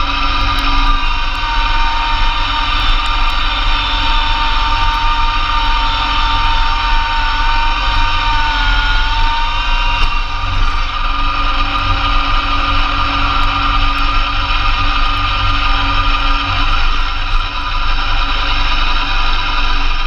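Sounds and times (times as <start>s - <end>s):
snowblower whine: 0.0s - 20.0s
tractor diesel engine running: 0.0s - 20.0s.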